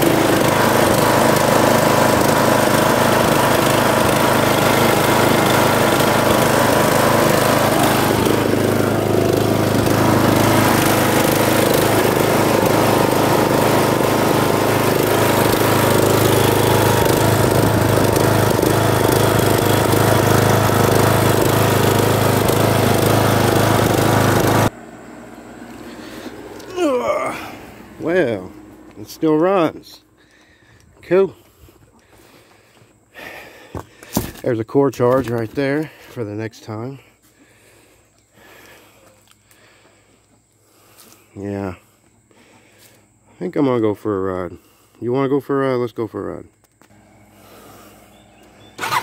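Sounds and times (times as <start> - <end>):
riding lawn mower engine running: 0.0 - 45.6, 46.5 - 49.0.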